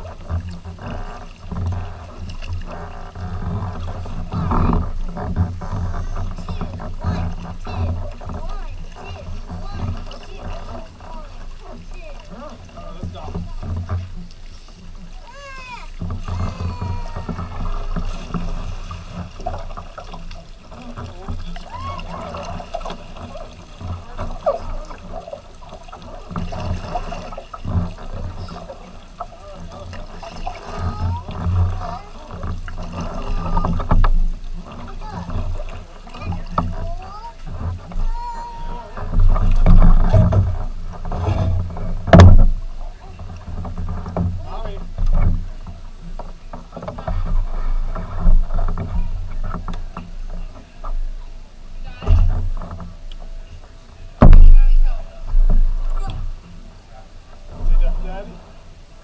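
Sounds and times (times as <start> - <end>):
kayak paddles dipping in water: 0.0 - 59.0
water splashing and gurgling: 0.0 - 59.0.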